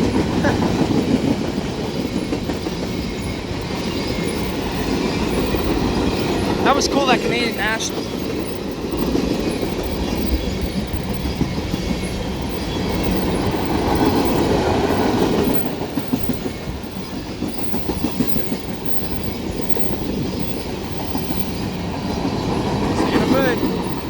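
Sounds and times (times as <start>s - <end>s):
train cars rumbling past: 0.0s - 24.0s
wheels clacking over rail joints: 0.0s - 24.0s.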